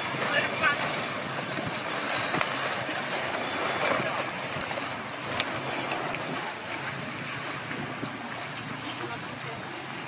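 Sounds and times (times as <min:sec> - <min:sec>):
water rushing: 0:00.0 - 0:10.0
wind: 0:00.0 - 0:10.0.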